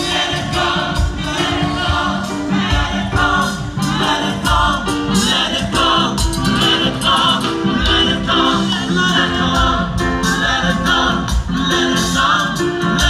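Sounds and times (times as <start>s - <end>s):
drum beat: 0.0s - 13.0s
group of voices singing: 0.0s - 13.0s.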